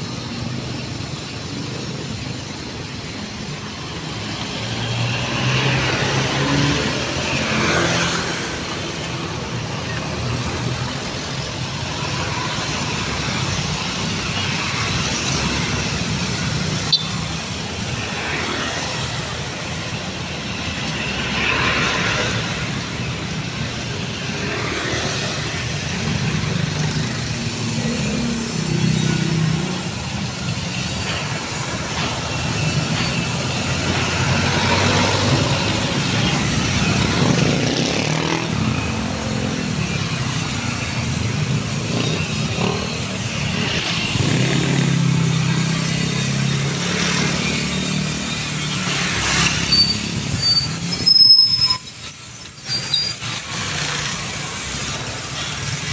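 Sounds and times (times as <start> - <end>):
street traffic: 0.0 - 55.9.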